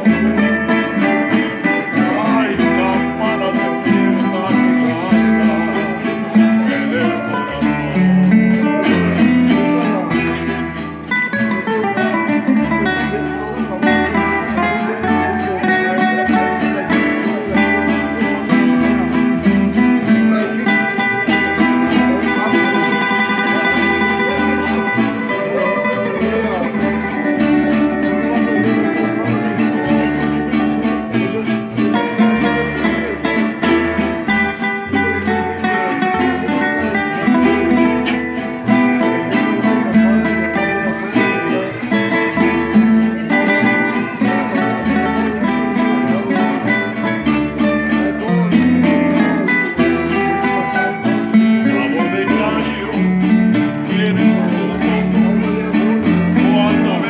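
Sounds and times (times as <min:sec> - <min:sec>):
plucked bass notes: 0:00.0 - 0:57.0
strummed guitar chords: 0:00.0 - 0:57.0.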